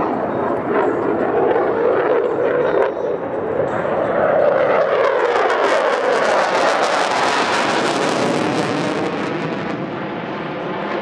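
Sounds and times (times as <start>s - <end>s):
crackling jet roar: 0.0s - 11.0s.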